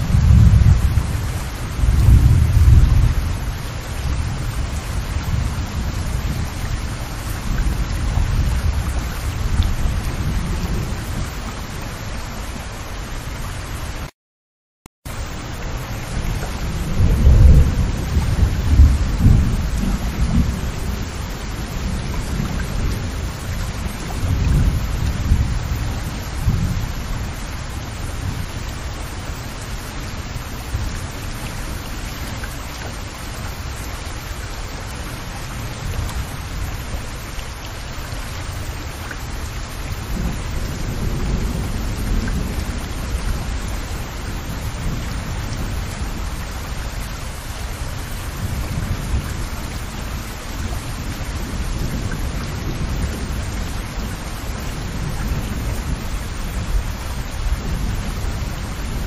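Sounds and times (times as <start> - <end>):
rain splashing on water: 0.0 - 14.1, 15.1 - 59.0.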